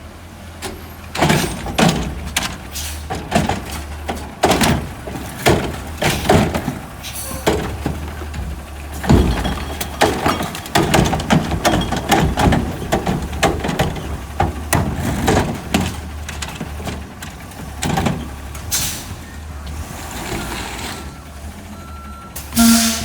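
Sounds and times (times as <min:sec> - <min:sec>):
garbage truck engine running: 0:00.0 - 0:23.0
cart slamming and clattering: 0:00.6 - 0:21.3, 0:22.4 - 0:23.0.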